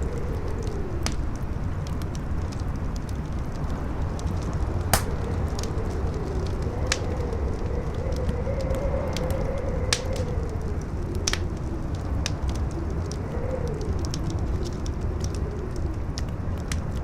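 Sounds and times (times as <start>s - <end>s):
campfire crackling: 0.0s - 17.0s
wind rumbling and howling: 0.0s - 17.0s.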